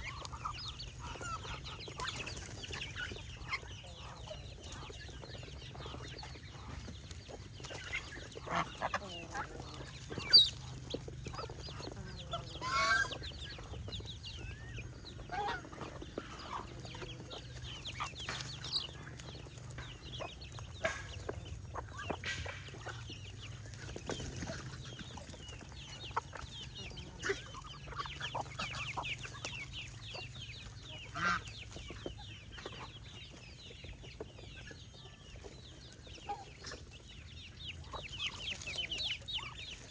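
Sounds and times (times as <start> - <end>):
loud poultry calls: 0.0 - 34.0
poultry peeping and clucking: 0.0 - 39.9.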